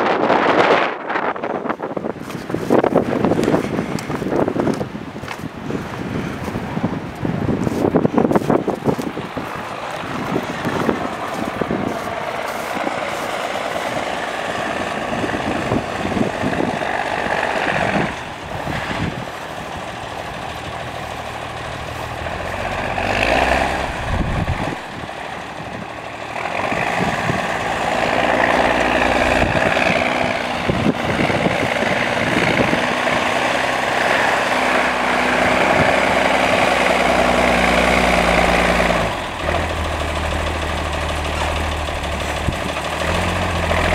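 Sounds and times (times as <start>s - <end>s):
diesel truck engine droning: 0.0s - 43.9s
wind buffeting microphone: 0.0s - 43.9s.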